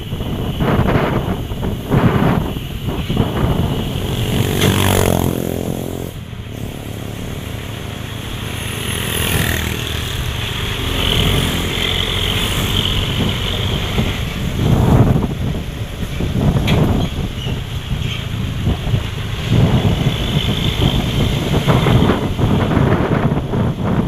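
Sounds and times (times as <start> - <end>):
vehicles passing on a road: 0.0 - 24.0.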